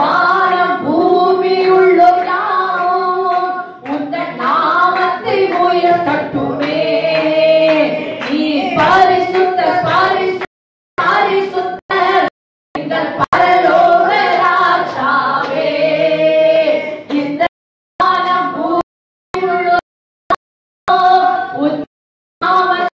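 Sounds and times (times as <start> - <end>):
women singing worship song: 0.0 - 19.8, 20.9 - 22.9.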